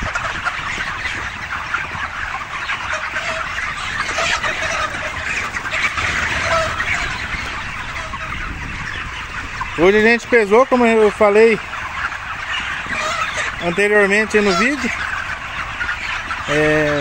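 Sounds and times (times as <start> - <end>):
chickens chirping and clucking: 0.0 - 17.0.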